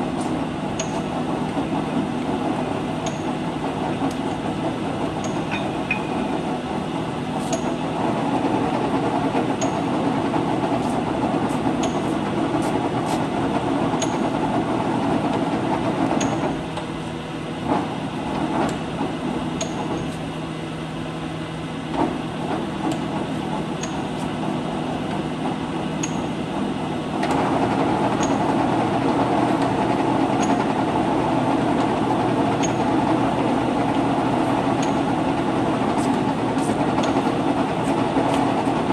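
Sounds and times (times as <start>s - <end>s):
lathe mechanical drone: 0.0s - 38.9s.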